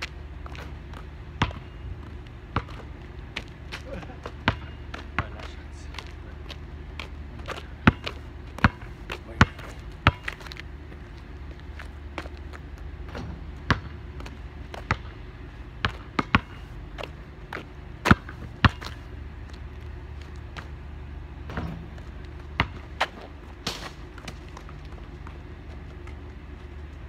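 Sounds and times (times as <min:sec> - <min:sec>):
basketball bouncing on asphalt: 0:00.0 - 0:27.0.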